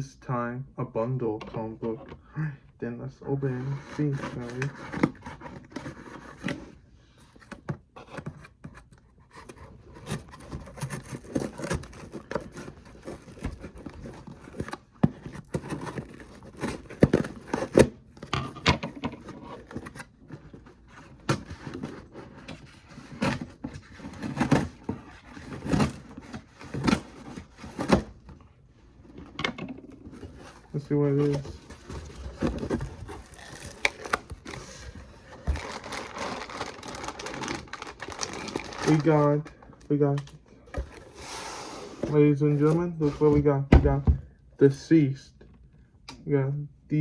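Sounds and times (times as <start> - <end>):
packaging scraping and tearing: 3.4 - 43.5.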